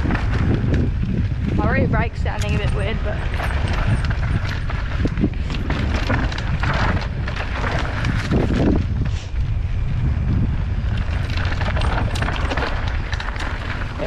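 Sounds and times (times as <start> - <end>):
bike clicks and rattles: 0.0 - 14.0
tyres rumbling on dirt: 0.0 - 14.0
wind buffeting microphone: 0.0 - 14.0.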